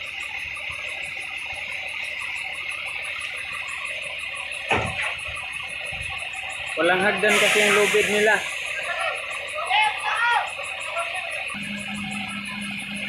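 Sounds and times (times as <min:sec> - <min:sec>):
forklift engine running: 0:00.0 - 0:13.0.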